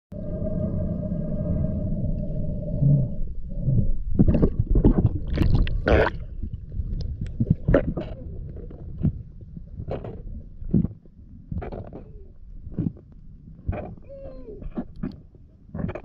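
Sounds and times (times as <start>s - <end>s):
muffled underwater hum: 0.1s - 15.1s
underwater gurgling and bubbly rushes: 0.2s - 14.0s.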